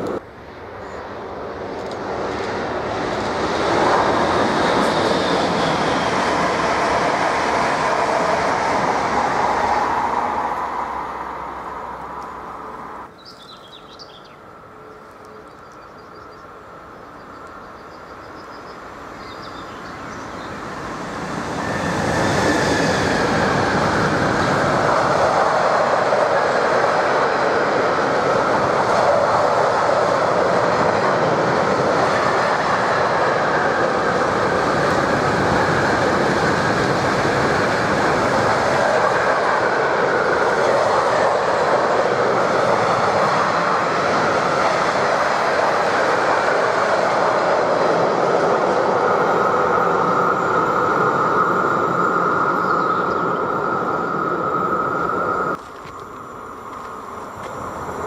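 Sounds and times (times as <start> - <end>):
train wheels rumbling on rails: 0.0 - 14.0, 14.6 - 58.0
electric locomotive passing: 0.0 - 58.0.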